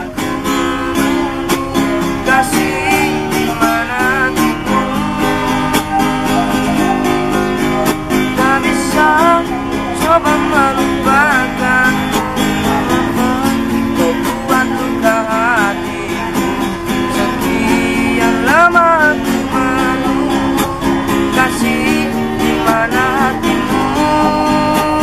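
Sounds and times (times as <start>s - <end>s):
acoustic guitar strumming: 0.0s - 25.0s
wordless melody phrases: 0.0s - 25.0s.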